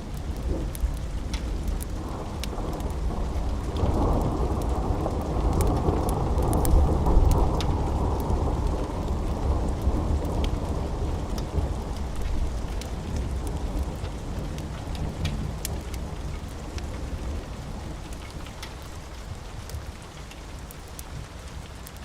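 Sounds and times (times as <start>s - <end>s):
steady rain: 0.0s - 22.0s
wood fire crackling: 0.0s - 22.0s
low roll of thunder: 0.1s - 20.0s.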